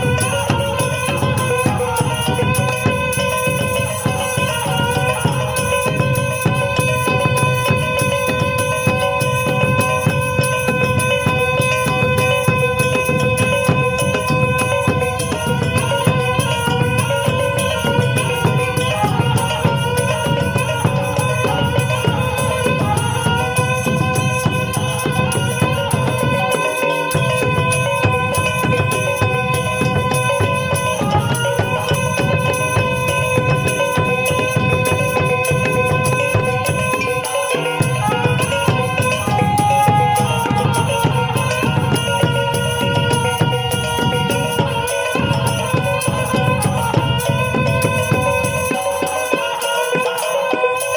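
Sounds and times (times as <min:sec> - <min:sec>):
held tone of pipes: 0:00.0 - 0:50.9.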